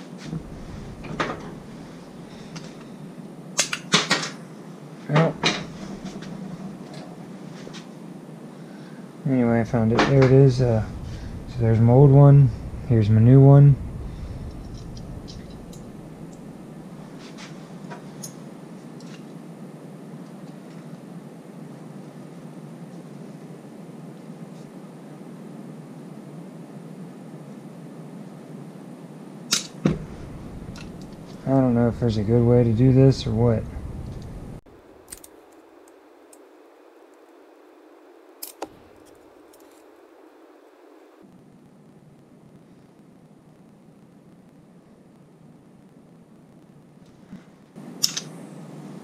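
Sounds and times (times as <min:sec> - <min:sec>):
low background noise: 0:00.0 - 0:49.0
low room noise: 0:00.0 - 0:49.0.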